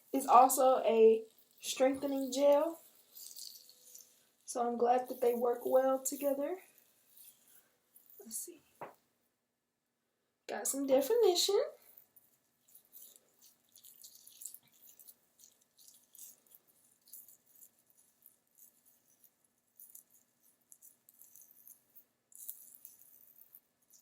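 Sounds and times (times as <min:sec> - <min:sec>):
hair rustling while twisted: 0:00.0 - 0:09.0, 0:10.7 - 0:24.0.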